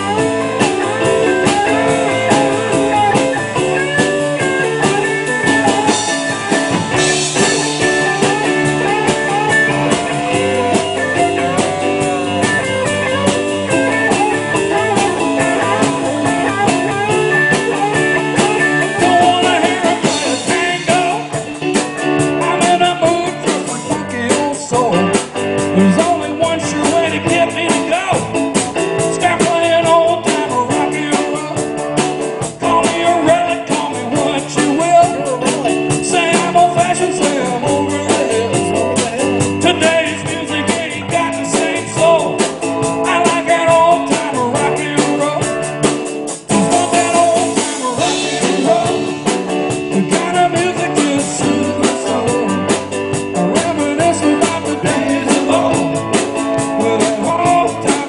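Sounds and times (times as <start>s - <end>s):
live rock and roll band: 0.0s - 58.0s.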